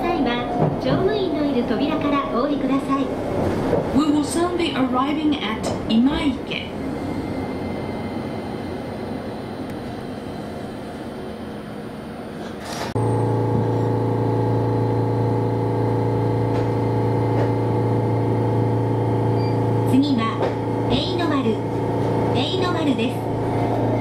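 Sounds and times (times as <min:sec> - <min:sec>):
tram rumbling: 0:00.0 - 0:24.0.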